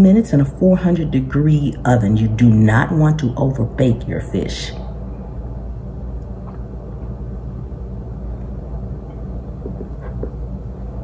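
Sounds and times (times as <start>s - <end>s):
steady low room hum: 0.0s - 11.0s.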